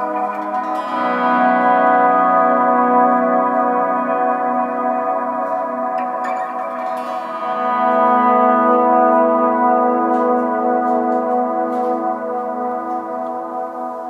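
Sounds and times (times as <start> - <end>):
electric guitar chord with reverb: 0.0 - 14.0
soft picked guitar notes: 0.0 - 14.0.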